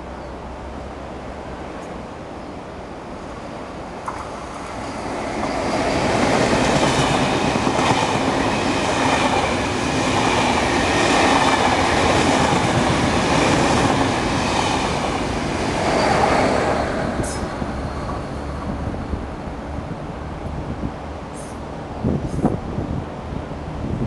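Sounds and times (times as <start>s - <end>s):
train wheels rushing on rail: 3.9s - 24.0s.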